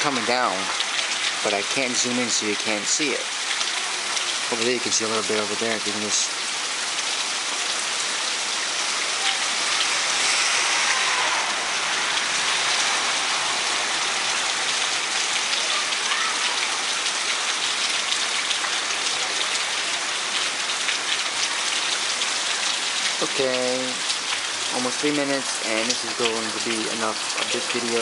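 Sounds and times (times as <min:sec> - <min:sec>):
raindrops ticking close by: 0:00.0 - 0:28.0
steady rain falling: 0:00.0 - 0:28.0.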